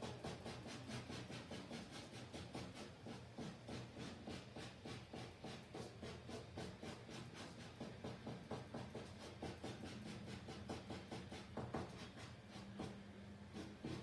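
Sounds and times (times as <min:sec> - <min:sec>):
drawing tool scratching canvas: 0:00.0 - 0:14.0.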